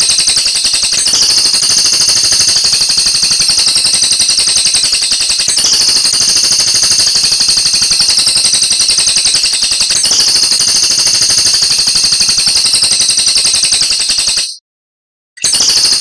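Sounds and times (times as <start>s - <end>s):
bird singing rapid rattling run: 0.0s - 14.5s.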